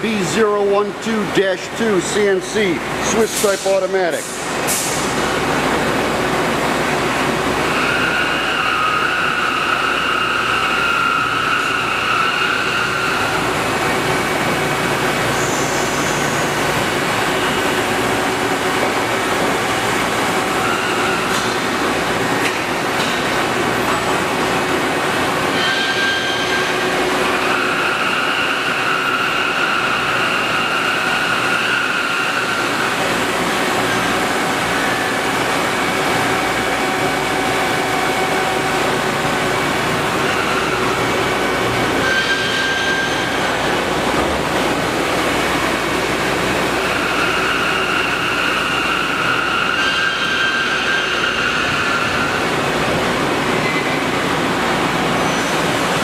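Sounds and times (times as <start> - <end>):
high machine whine: 0.0 - 56.0
lathe running: 5.4 - 56.0.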